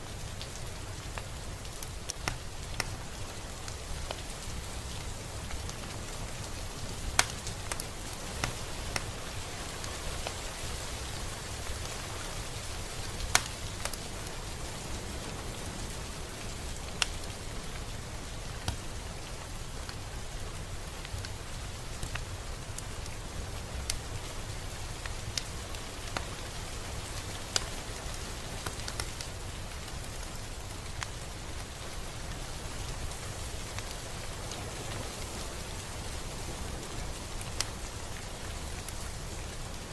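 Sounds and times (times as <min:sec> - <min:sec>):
raindrops striking close by: 0:00.0 - 0:39.9
steady rain falling: 0:00.0 - 0:39.9.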